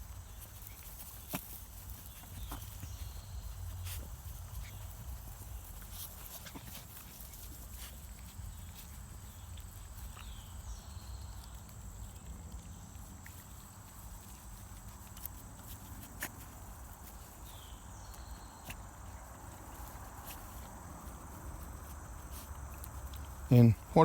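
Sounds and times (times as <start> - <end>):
light steps and clicks in grass: 0.0 - 24.0.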